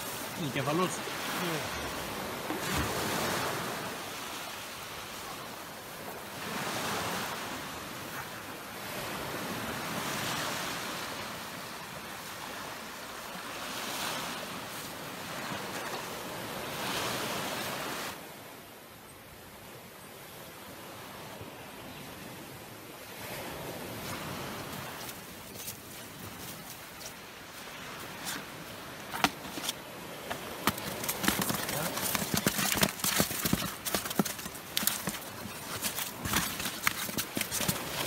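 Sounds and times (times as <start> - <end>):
sea waves breaking on shore: 0.0 - 18.6, 19.7 - 38.0.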